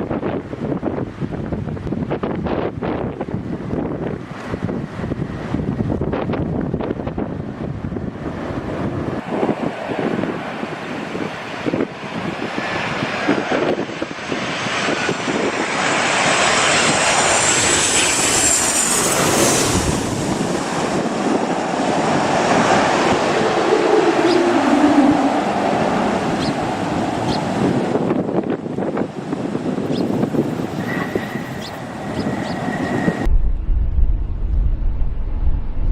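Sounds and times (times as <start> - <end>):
airplane engines roaring past: 0.0 - 35.9.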